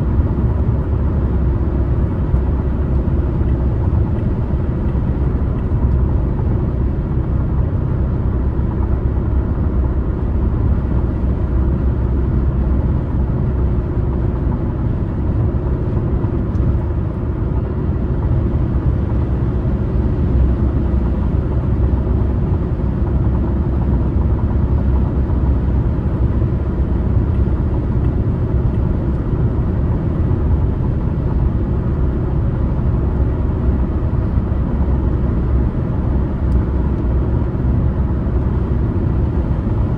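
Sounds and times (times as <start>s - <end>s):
car engine: 0.0s - 39.9s
road and tyre rumble: 0.0s - 39.9s.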